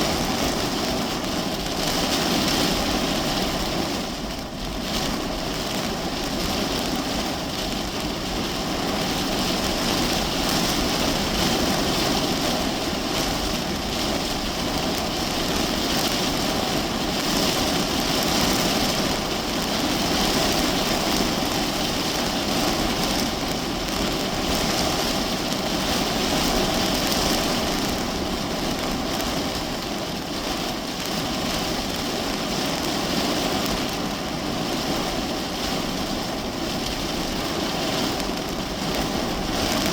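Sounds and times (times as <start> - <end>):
heavy rain drumming on car roof: 0.0 - 39.9.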